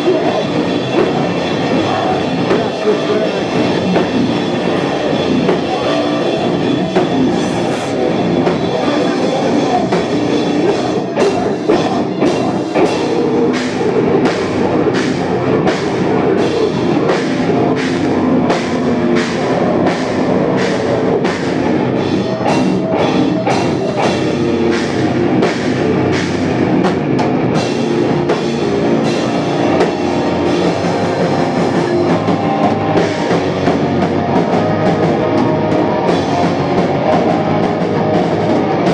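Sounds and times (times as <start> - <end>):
drum and cymbal hits: 0.0 - 38.9
heavy rock band playing: 0.0 - 38.9.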